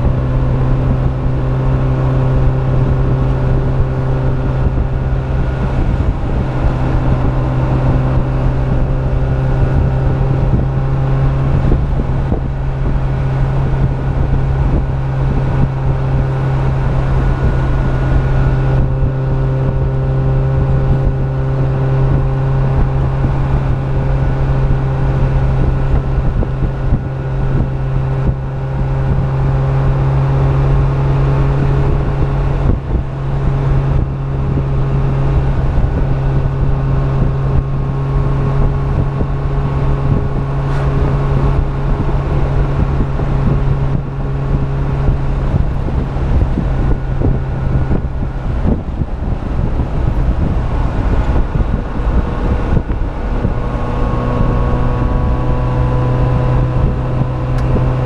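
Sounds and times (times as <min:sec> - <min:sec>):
car engine cruising drone: 0:00.0 - 0:58.0
road and wind noise: 0:00.0 - 0:58.0.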